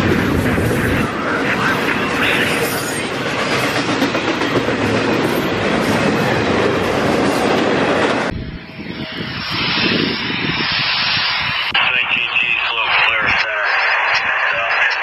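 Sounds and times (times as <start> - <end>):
wind buffeting microphone: 0.0 - 2.5, 3.2 - 14.6
freight train rumble and clatter: 0.0 - 15.0.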